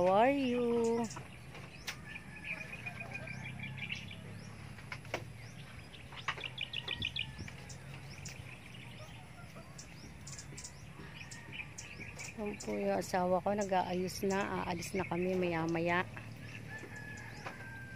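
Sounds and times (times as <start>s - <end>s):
birds chirping and calling: 0.0s - 17.9s.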